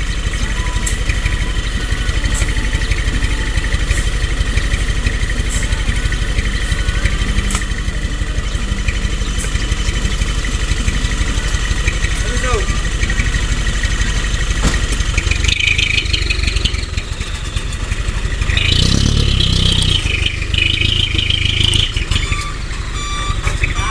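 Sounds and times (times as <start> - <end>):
diesel truck engine running: 0.0 - 23.9.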